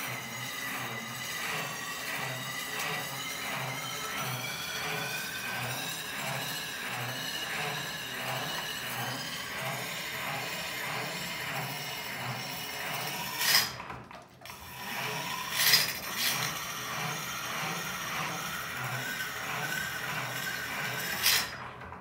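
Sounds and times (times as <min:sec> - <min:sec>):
grinding wheel rasping on steel: 0:00.0 - 0:13.8, 0:14.4 - 0:21.8.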